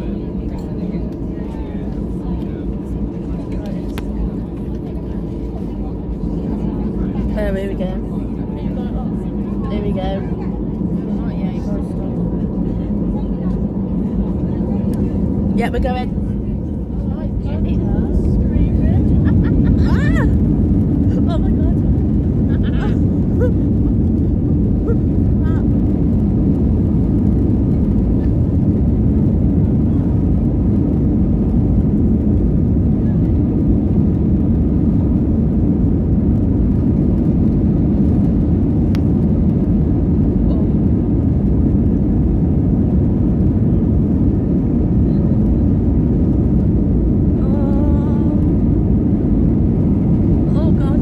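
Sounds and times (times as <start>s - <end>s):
jet engines roaring: 0.0s - 51.0s
wheels rumbling on runway: 0.0s - 51.0s.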